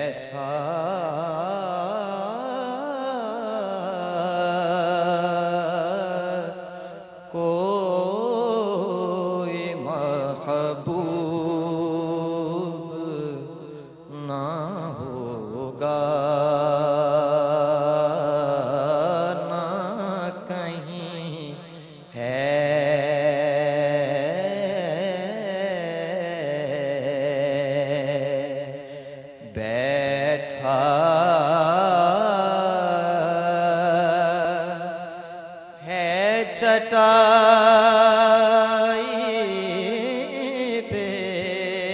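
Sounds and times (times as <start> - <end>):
man singing into a microphone: 0.0 - 41.9.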